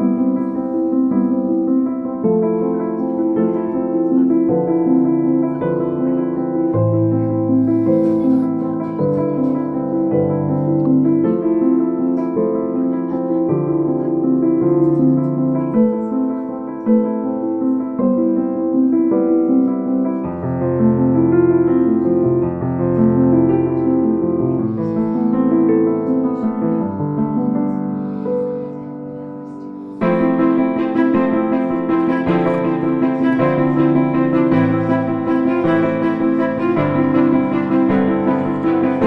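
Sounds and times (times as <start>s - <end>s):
soft piano and electric piano music: 0.0s - 39.0s.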